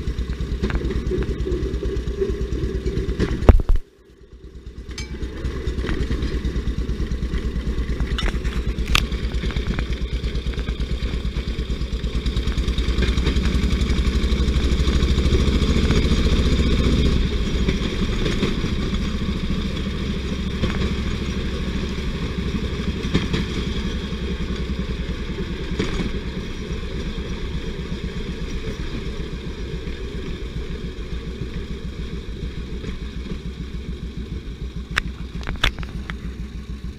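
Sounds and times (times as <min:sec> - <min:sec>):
rail trolley engine running: 0:00.0 - 0:36.9.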